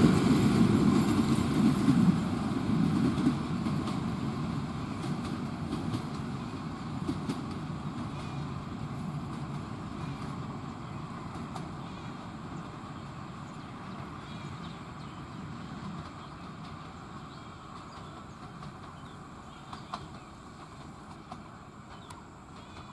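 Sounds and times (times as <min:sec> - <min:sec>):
train rumbling on track: 0:00.0 - 0:22.9.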